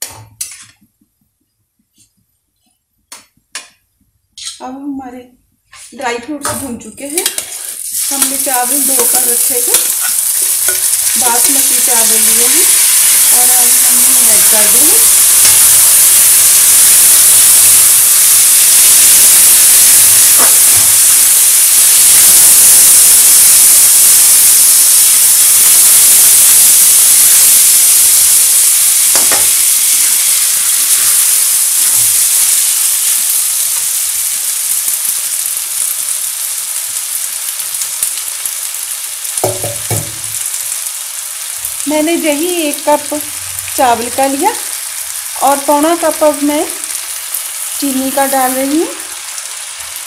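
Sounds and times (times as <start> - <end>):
rice sizzling in hot oil: 5.9 - 50.0.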